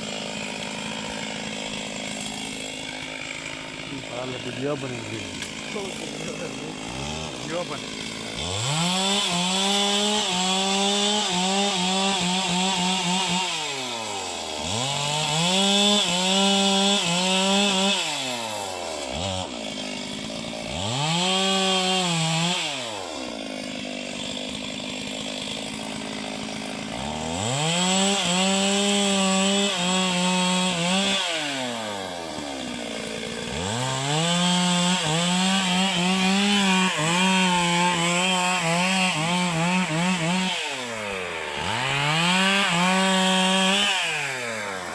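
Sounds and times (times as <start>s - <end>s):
chainsaw cutting tree: 0.0s - 44.9s.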